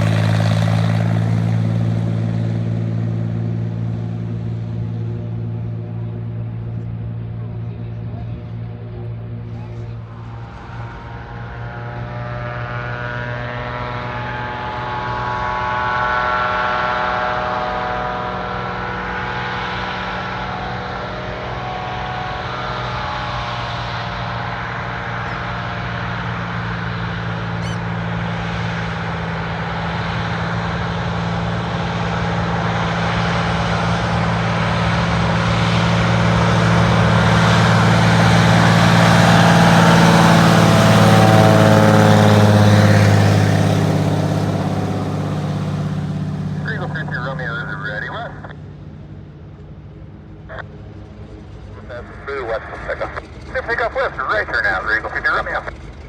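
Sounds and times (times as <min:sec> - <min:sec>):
floatplane engine and propeller drone: 0:00.0 - 0:56.0.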